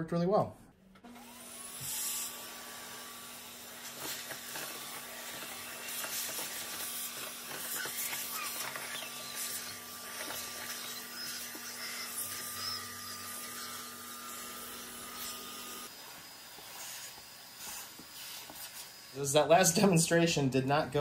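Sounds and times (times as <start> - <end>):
vacuum cleaner running: 1.0 - 20.0.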